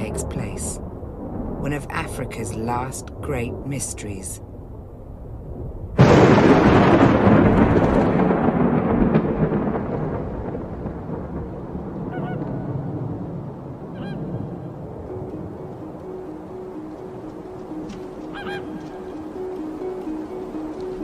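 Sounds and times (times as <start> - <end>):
thunderclap rumbling: 0.0 - 3.7, 4.4 - 21.0.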